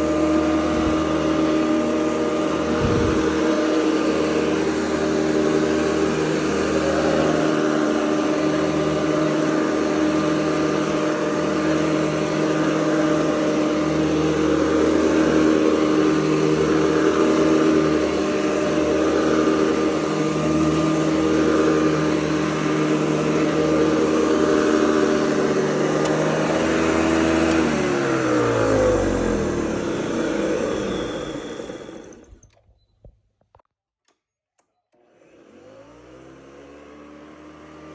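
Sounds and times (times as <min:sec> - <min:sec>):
vacuum cleaner running: 0:00.0 - 0:32.6, 0:35.0 - 0:37.9
vacuum motor winding down: 0:00.0 - 0:32.6, 0:34.9 - 0:37.9.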